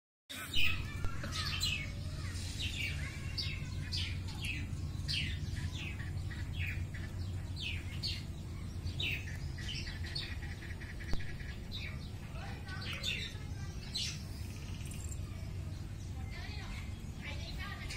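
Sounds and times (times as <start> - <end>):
birds chirping: 0.3 - 17.9.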